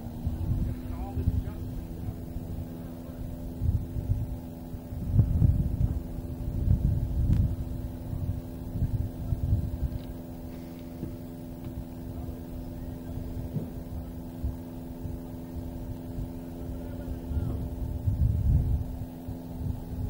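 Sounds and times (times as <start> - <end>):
low rumbling noise: 0.0 - 20.0
machine hum: 0.0 - 20.0.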